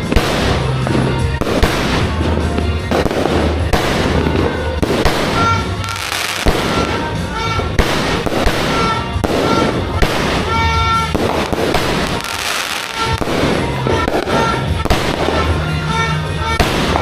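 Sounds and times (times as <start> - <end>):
fireworks crackling: 0.0 - 17.0
fireworks shots and bursts: 0.0 - 17.0.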